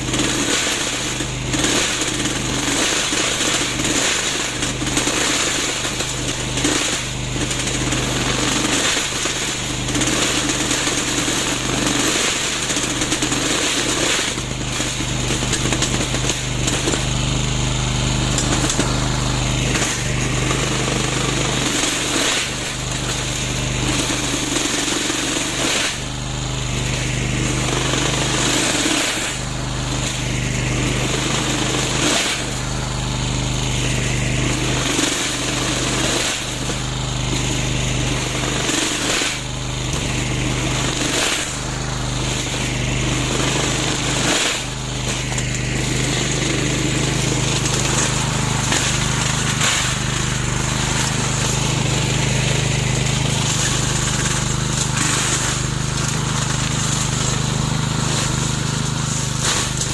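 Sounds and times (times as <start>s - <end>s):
lawn mower running: 0.0s - 59.9s.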